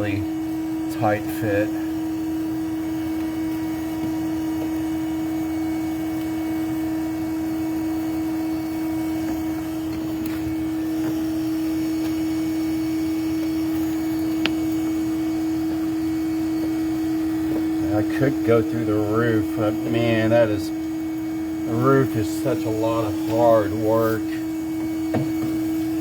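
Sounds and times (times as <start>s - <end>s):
vacuum motor humming: 0.0s - 26.0s.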